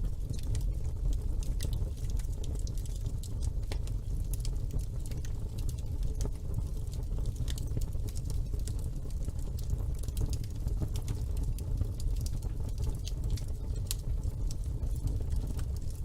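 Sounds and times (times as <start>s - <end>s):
fire crackles and pops: 0.0s - 16.0s
fire flame rumble: 0.0s - 16.0s.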